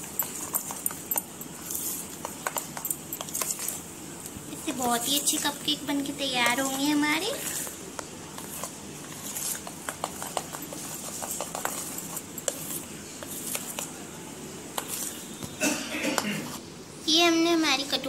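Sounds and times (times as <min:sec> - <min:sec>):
spoon stirring thick batter: 0:00.0 - 0:15.6.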